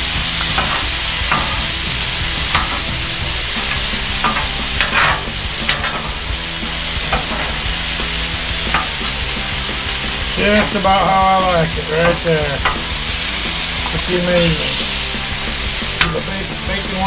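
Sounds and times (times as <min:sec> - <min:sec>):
food sizzling on a griddle: 0:00.0 - 0:17.0
metal spatulas scraping griddle: 0:00.1 - 0:16.3.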